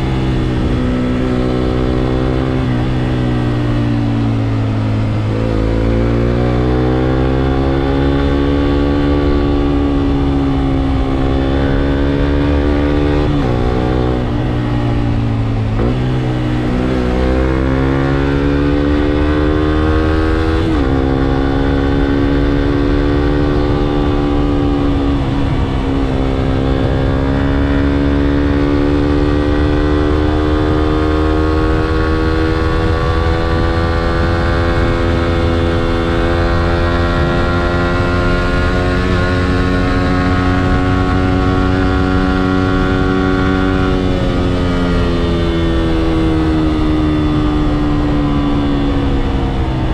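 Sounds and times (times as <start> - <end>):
motorcycle engine shifting gears: 0.0 - 49.9.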